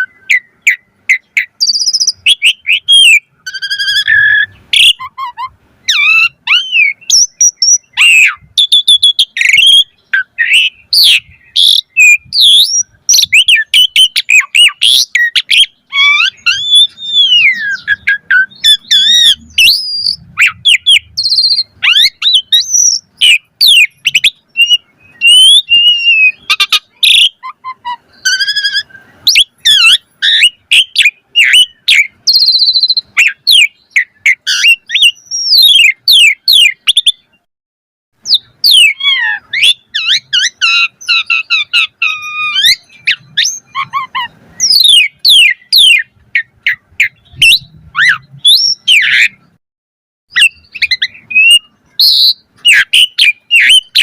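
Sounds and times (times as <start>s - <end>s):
starling singing whistles and squawks: 0.0s - 37.5s, 38.2s - 49.6s, 50.3s - 54.0s.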